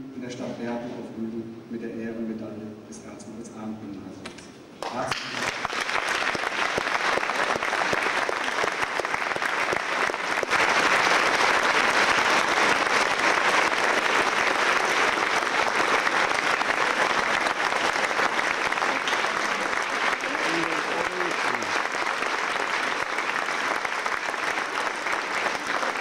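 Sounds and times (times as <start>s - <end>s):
audience applauding: 4.8s - 26.0s.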